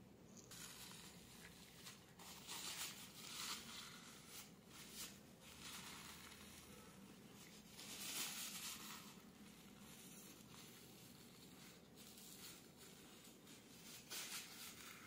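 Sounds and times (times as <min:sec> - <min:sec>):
paper tissue rustling: 0:00.4 - 0:15.0.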